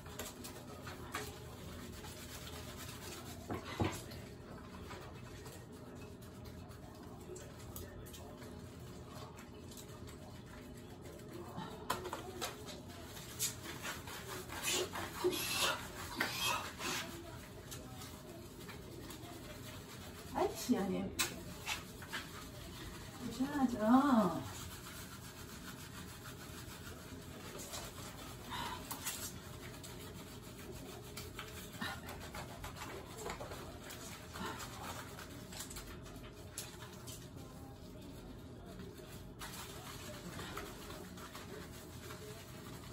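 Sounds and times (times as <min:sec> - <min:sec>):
hands scrubbing wet fur: 0:00.0 - 0:42.9.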